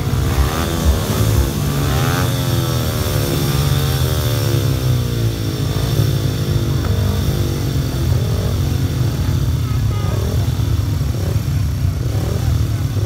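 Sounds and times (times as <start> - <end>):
motorcycles racing: 0.0 - 13.0.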